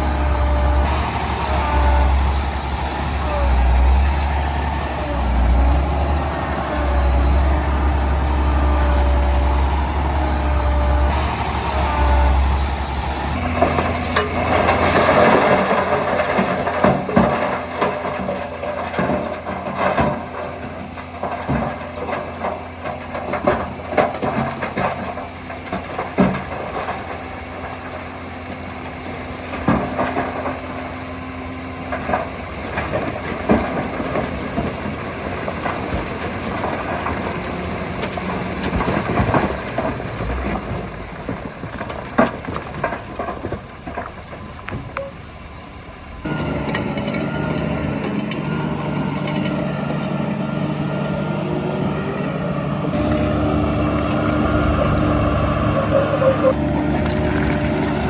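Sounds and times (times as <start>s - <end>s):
clanks and knocks: 0.0s - 28.0s, 31.8s - 45.2s, 46.2s - 58.0s
machinery engine running: 0.0s - 58.0s.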